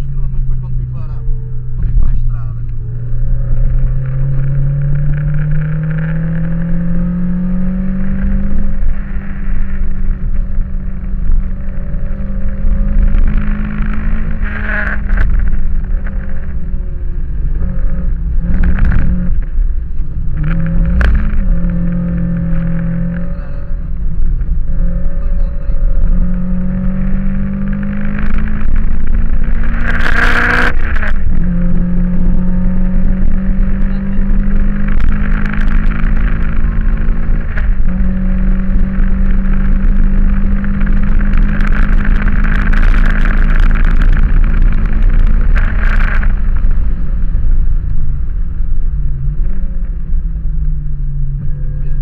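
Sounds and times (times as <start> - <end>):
car engine at high revs: 0.0 - 52.0.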